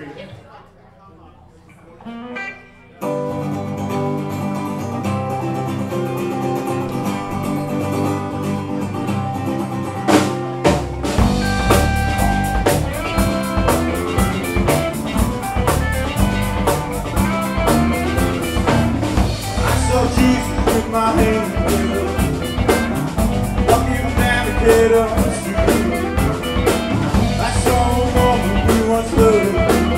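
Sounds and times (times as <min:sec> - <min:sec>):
guitars playing: 0:01.7 - 0:29.9
bass guitar: 0:02.0 - 0:29.9
drums: 0:03.1 - 0:29.9.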